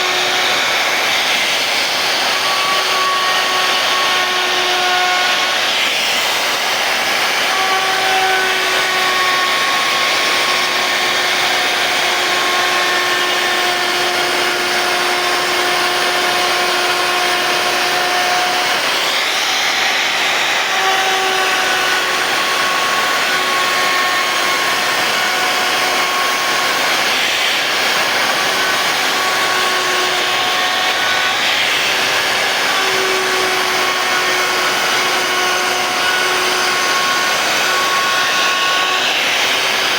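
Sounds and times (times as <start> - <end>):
router spindle cutting wood: 0.0 - 39.9.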